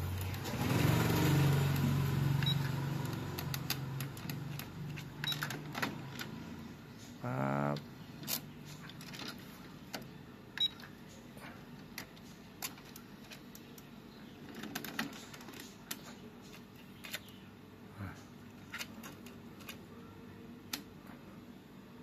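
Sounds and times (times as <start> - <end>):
faint low hum: 1.5 - 22.0.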